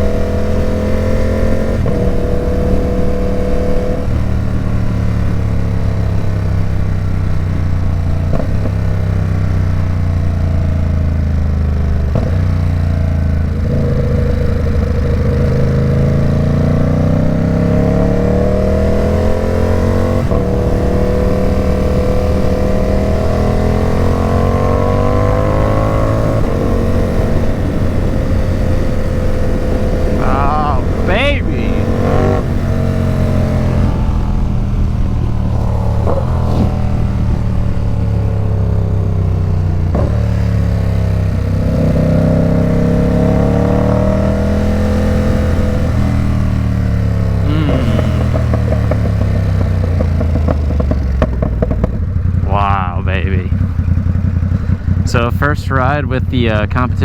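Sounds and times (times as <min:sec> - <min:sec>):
motorcycle engine revving: 0:00.0 - 0:31.1, 0:31.7 - 0:52.5, 0:53.5 - 0:57.0.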